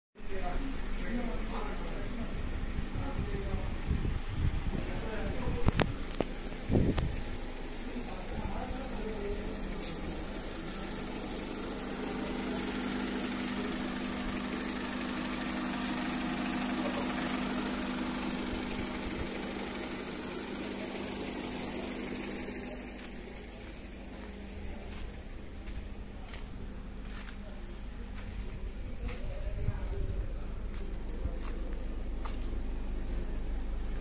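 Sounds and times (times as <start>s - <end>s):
car engine idling: 0.3s - 34.0s.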